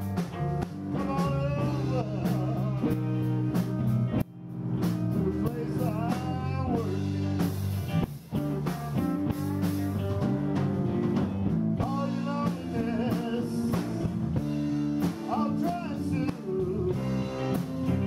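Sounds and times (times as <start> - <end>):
bass: 0.0 - 18.0
drums: 0.0 - 18.0
electric guitars with bent notes: 0.0 - 18.0.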